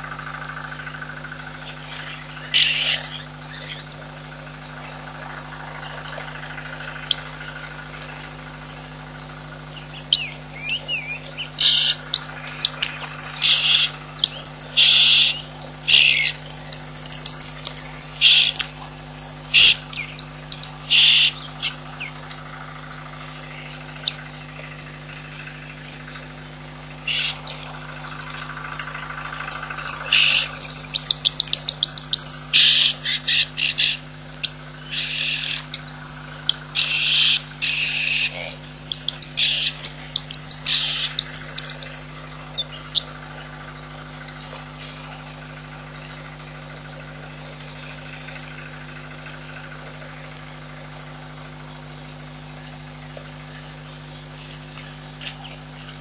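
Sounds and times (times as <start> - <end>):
birds chirping and trilling: 0.0 - 56.0
steady low hum: 0.0 - 56.0.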